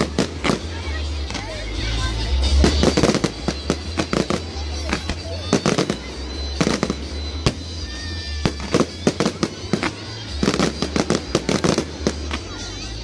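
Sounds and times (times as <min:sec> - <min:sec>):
fireworks bangs: 0:00.0 - 0:13.0
fireworks crackling pops: 0:00.0 - 0:13.0.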